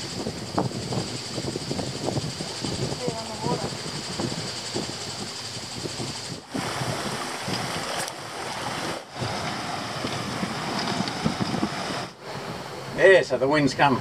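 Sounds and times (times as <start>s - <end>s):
water rushing along hull: 0.0s - 14.0s
wind on microphone: 0.0s - 14.0s.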